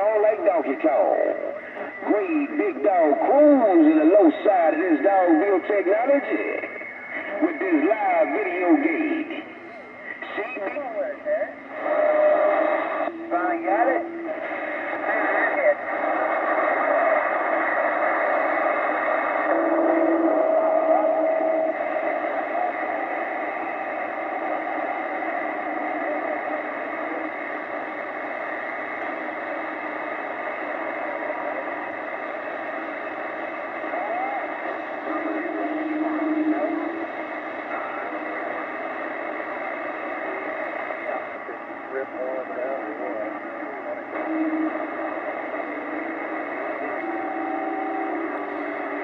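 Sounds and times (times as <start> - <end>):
radio static hiss: 0.0 - 49.0.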